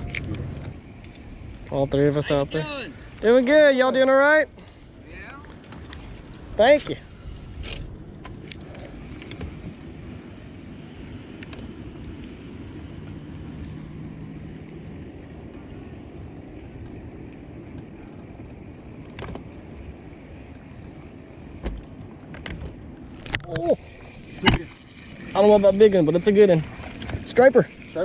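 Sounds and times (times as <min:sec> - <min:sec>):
low hum: 0:00.0 - 0:03.4, 0:04.1 - 0:28.0.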